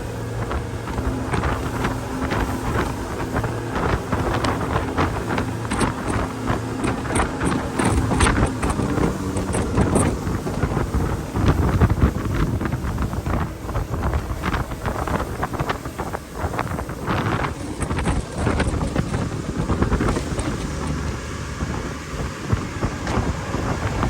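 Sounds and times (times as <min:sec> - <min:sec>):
speedboat engine hum: 0:00.0 - 0:24.0
wind buffeting microphone: 0:00.0 - 0:24.0.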